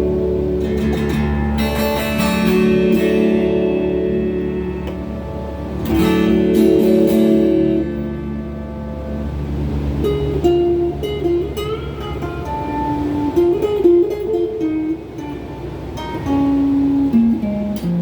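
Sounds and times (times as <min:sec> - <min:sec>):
electric guitar strumming chords: 0:00.0 - 0:18.0.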